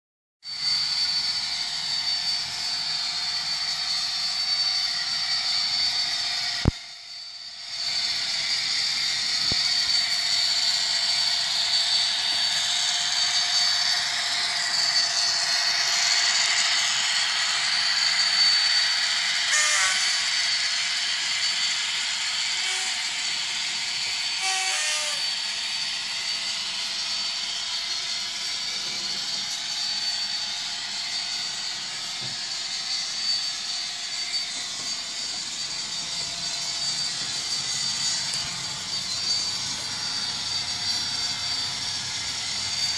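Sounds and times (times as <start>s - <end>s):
model train whine and rattle: 0.4s - 42.9s.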